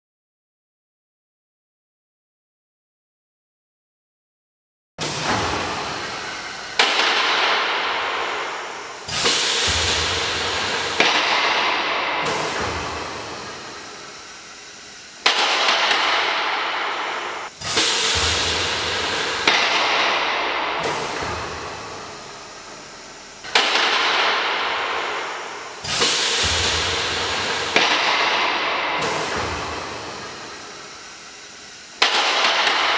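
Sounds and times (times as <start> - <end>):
compressed air hiss: 5.0 - 32.9
lift clanking: 5.0 - 32.9.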